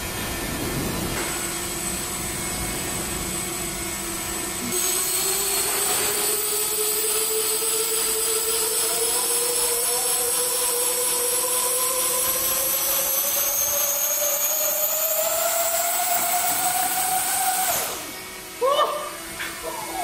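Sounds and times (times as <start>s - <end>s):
electric ducted fans whining: 0.0s - 20.0s.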